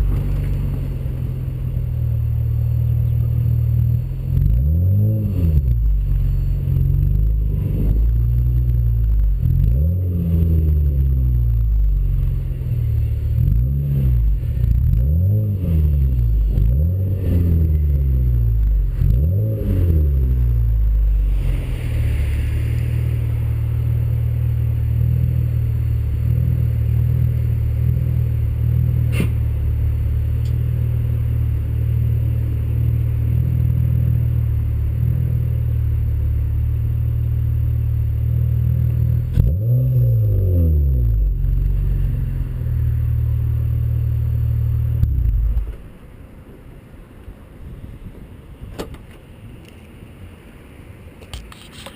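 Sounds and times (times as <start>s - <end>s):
car engine revving and idling: 0.0s - 46.9s.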